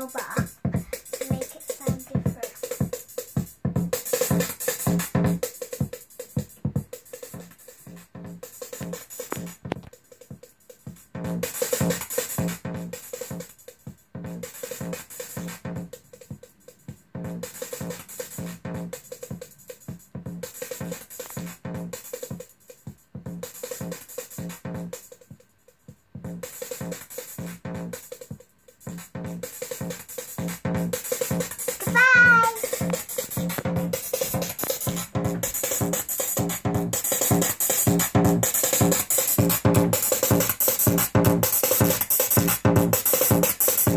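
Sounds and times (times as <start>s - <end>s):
drum machine beat: 0.0s - 43.9s.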